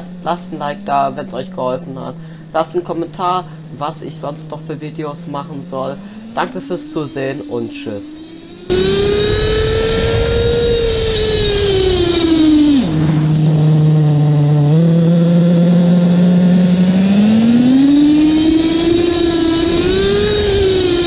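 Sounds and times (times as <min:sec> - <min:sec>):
two-stroke engine revving: 0:00.0 - 0:21.0.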